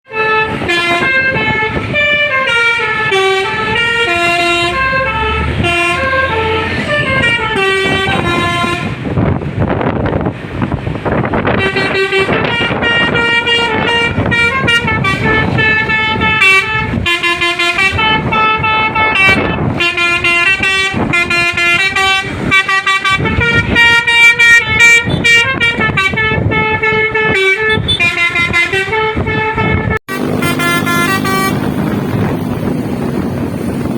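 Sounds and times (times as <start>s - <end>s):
multi-tone air horn melody: 0.1s - 9.1s, 11.5s - 33.9s
noisy rush of vehicle: 0.1s - 33.9s.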